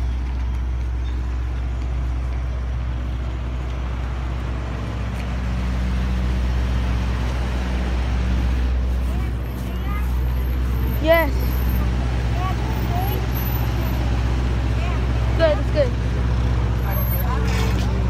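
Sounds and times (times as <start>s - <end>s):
truck engine humming: 0.0s - 18.0s.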